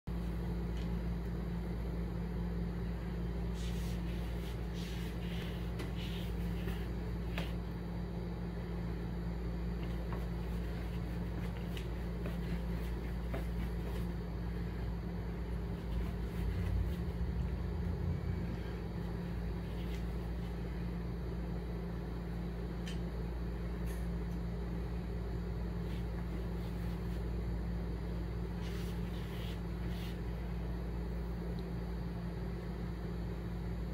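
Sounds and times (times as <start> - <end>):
low mechanical hum: 0.1 - 33.9.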